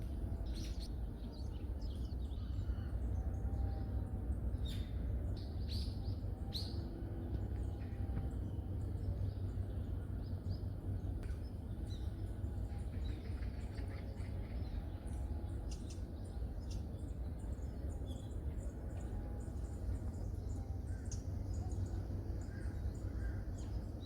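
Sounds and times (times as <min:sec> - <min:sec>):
low background rumble: 0:00.0 - 0:24.0
wild birds chirping: 0:00.0 - 0:24.0.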